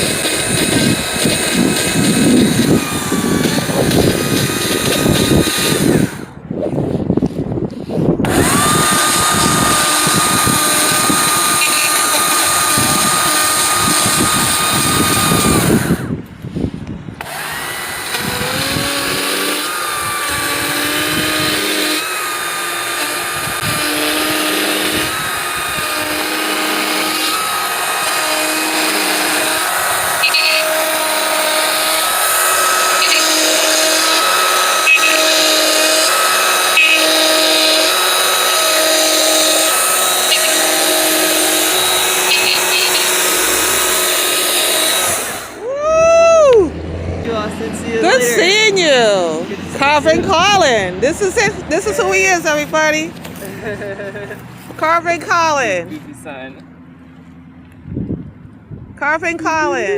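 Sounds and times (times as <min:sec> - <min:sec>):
power carving tool on wood: 0:00.0 - 0:16.3, 0:17.2 - 0:45.8, 0:48.0 - 0:53.6.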